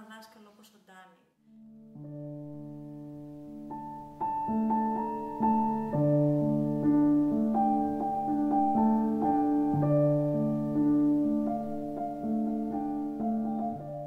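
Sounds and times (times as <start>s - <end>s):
gentle piano music: 1.5s - 14.0s.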